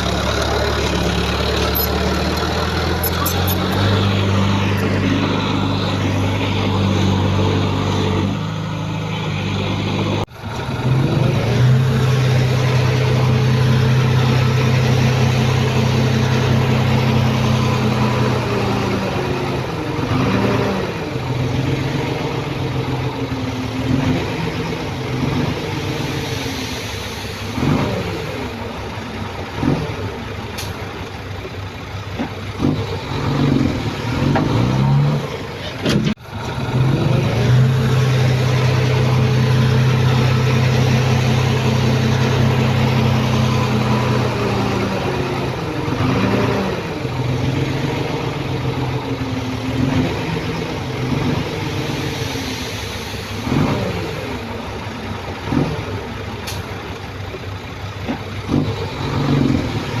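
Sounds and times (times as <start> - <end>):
heavy diesel engine revving: 0.0 - 60.0.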